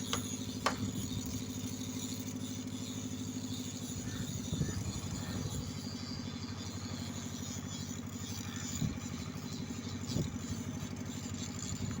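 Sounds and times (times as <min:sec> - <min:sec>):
engine puttering: 0:00.0 - 0:12.0.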